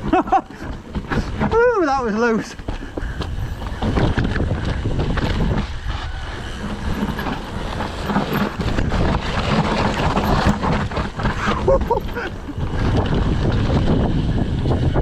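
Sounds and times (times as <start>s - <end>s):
bike knocking and rattling: 0.0s - 15.0s
bike tyres rumbling on dirt: 0.0s - 15.0s.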